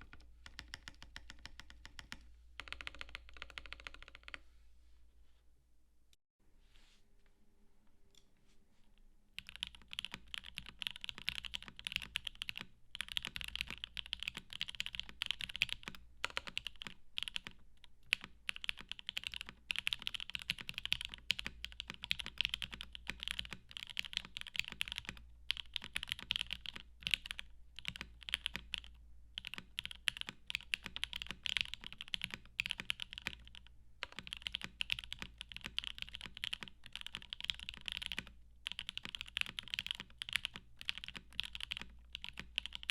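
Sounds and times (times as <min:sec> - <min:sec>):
fast typing on mechanical keyboard: 0:00.0 - 0:04.4, 0:09.4 - 0:42.9.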